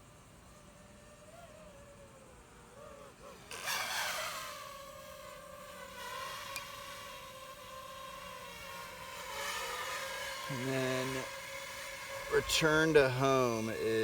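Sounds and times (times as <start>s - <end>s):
drone propellers whining: 1.6s - 14.0s.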